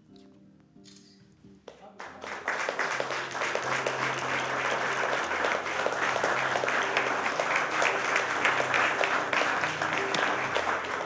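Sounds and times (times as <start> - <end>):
people applauding: 1.7 - 11.0.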